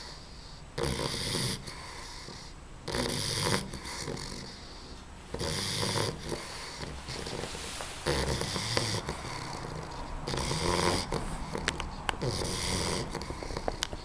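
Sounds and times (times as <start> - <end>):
puppy snoring: 0.0 - 14.0.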